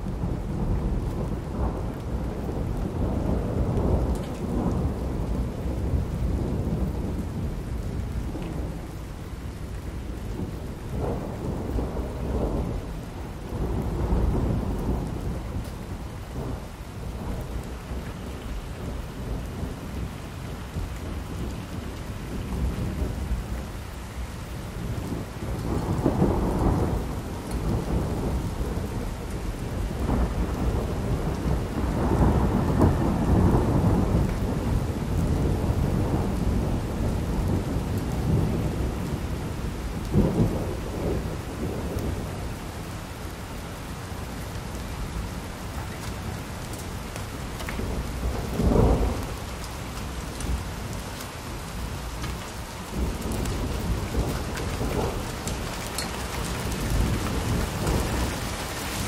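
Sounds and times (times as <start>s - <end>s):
thunder rumbling: 0.0s - 9.0s, 9.8s - 23.7s, 24.6s - 43.4s, 44.3s - 59.0s
steady rain: 0.0s - 59.0s.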